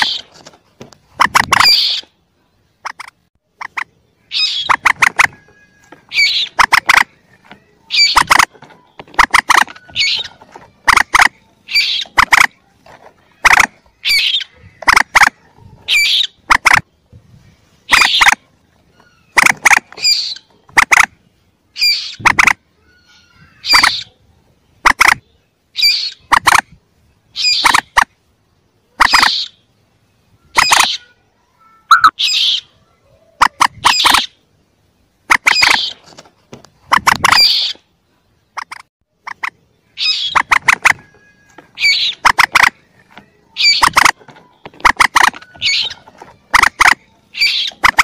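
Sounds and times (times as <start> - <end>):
young moorhen calls: 0.0 - 0.3, 1.2 - 2.2, 2.8 - 12.6, 13.3 - 16.9, 17.8 - 24.2, 24.8 - 26.7, 27.3 - 28.0, 28.9 - 29.7, 30.4 - 34.5, 35.3 - 36.0, 36.9 - 37.9, 38.6 - 48.0.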